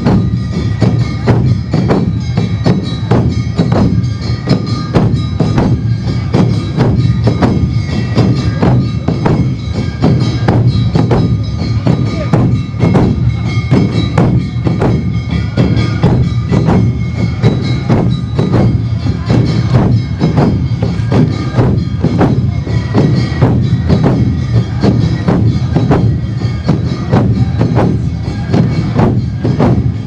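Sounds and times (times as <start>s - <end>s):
bell-like metal strikes: 0.0s - 30.0s
drums beating: 0.0s - 30.0s.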